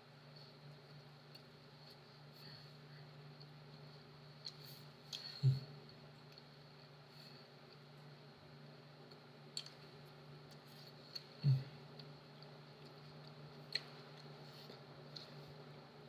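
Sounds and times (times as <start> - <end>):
quiet eating noises: 0.0 - 16.0
steady low hum: 0.0 - 16.0.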